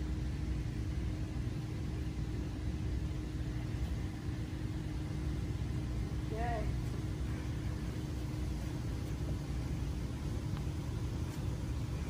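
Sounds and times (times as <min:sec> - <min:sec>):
fan low rumble: 0:00.0 - 0:12.0.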